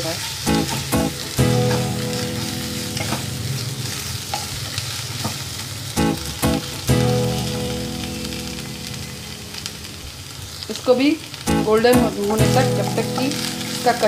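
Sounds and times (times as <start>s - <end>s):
paste sizzling in oil: 0.0s - 14.0s.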